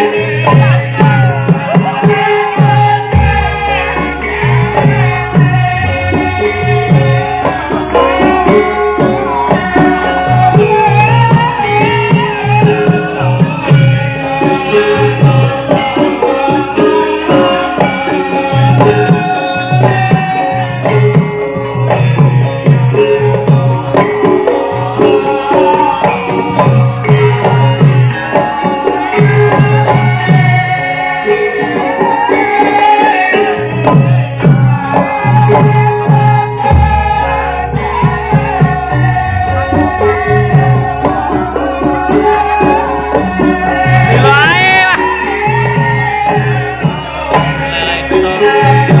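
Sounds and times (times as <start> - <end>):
hand drum beating: 0.0 - 49.0
ringing metallophone tones: 0.0 - 49.0.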